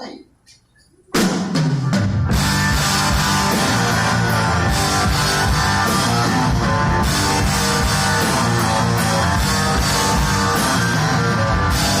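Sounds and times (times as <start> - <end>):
live rock band playing: 1.1 - 12.0.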